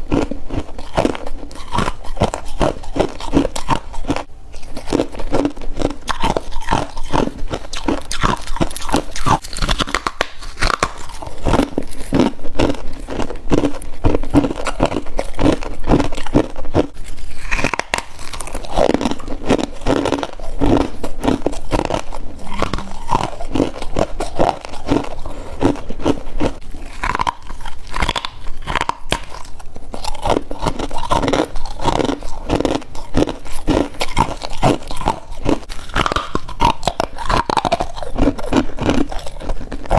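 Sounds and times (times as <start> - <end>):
person chewing crunchy frost: 0.0 - 39.9.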